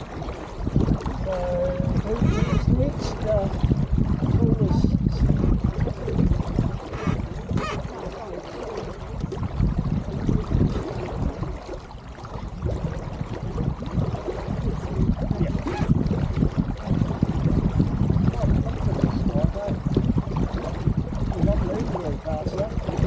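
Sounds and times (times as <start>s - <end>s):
water rushing along boat hull: 0.0s - 23.0s
wind rumble on microphone: 0.0s - 23.0s.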